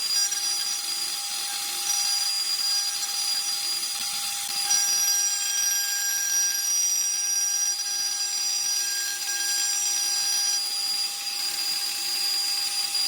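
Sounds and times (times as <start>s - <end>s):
wood lathe whine: 0.0s - 13.0s.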